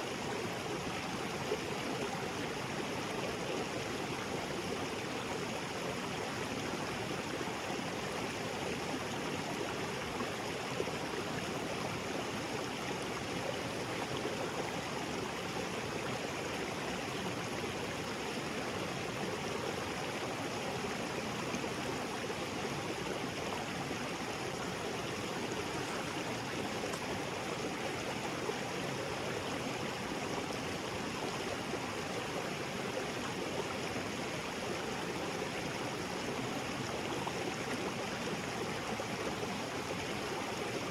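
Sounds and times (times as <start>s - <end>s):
small waterfall splashing: 6.0s - 40.9s.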